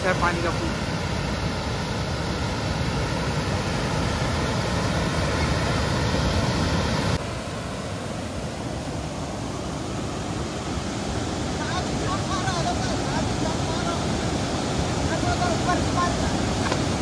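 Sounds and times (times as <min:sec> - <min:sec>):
water rushing below a dam: 0:00.0 - 0:17.0.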